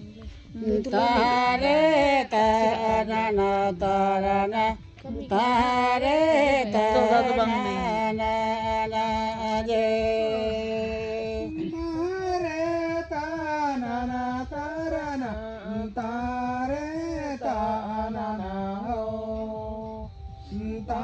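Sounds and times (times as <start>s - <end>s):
chant-like singing: 0.0s - 21.0s.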